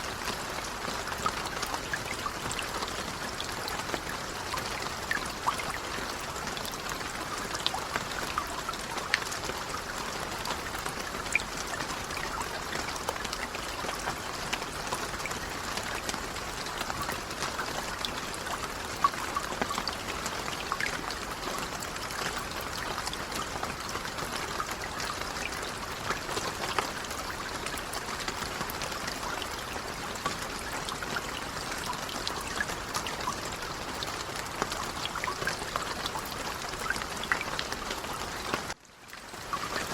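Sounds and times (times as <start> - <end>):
light rain falling: 0.0 - 39.9
raindrops ticking: 0.1 - 39.9.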